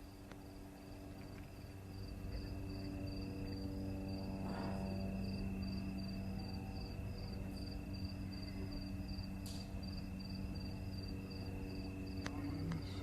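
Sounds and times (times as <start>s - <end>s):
insects chirping: 0.0s - 13.0s
low hum: 0.0s - 13.0s.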